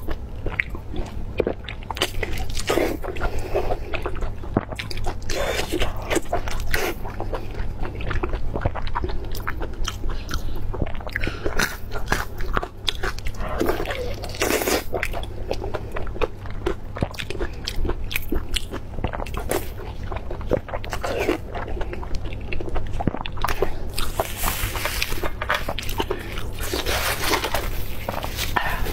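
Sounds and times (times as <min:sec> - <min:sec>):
chewing meat with wet smacking: 0:00.0 - 0:28.9.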